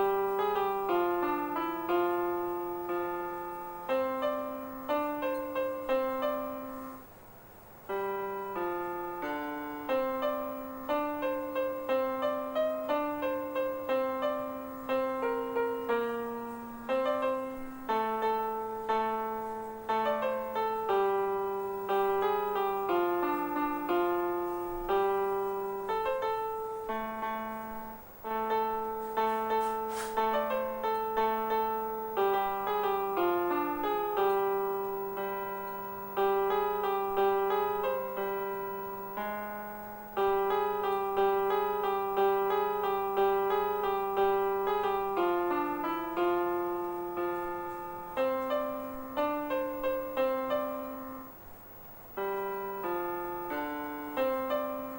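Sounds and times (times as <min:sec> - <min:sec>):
gentle piano music: 0:00.0 - 0:54.9.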